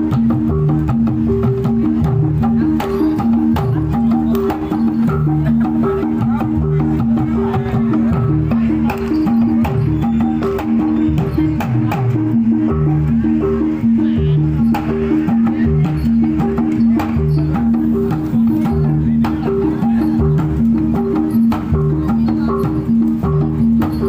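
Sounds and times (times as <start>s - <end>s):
drum and percussion strokes: 0.0s - 24.0s
metallophone notes: 0.0s - 24.0s.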